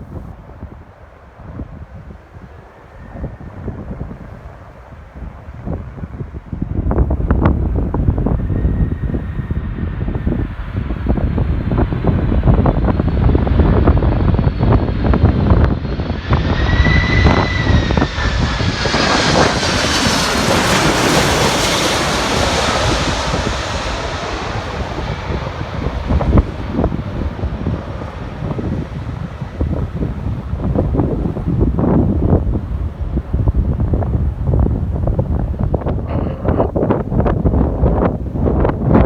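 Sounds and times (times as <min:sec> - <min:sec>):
jet airliner passing: 0:00.0 - 0:39.0
wind buffeting microphone: 0:00.0 - 0:39.0.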